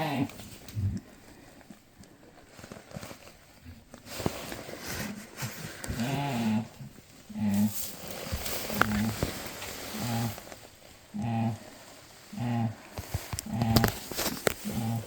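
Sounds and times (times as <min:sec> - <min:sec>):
rustling and light knocks: 0:00.4 - 0:11.1, 0:12.9 - 0:15.0.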